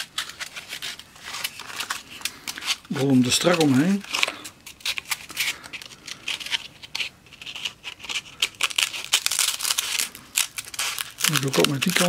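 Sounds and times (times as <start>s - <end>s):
sandpaper rustling and scraping: 0.0s - 12.0s.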